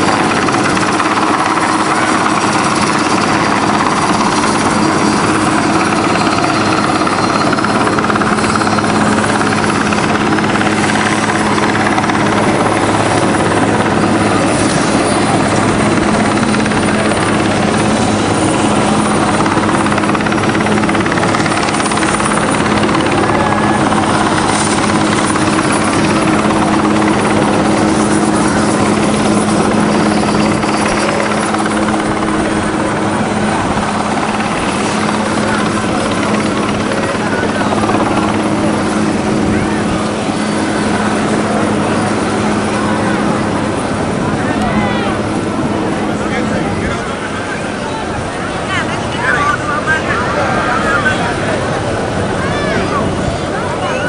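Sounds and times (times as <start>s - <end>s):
helicopter rotor and turbine din: 0.0s - 54.0s.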